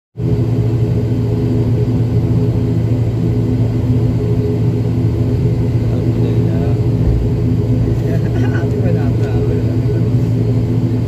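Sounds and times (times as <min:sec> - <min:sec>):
turboprop engine drone: 0:00.2 - 0:11.0.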